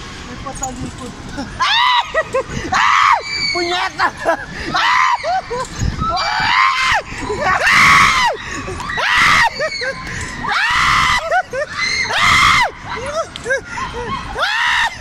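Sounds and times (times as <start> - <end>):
riders screaming: 1.6 - 15.0.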